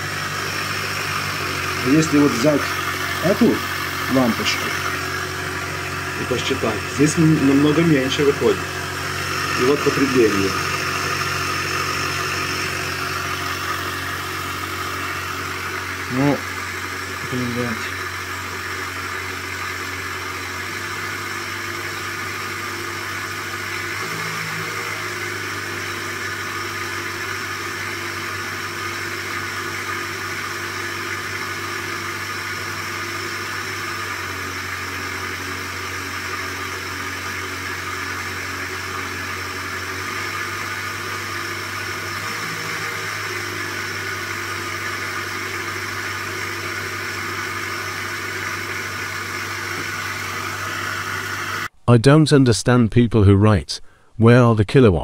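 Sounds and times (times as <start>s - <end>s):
generator machine hum: 0.0s - 52.2s.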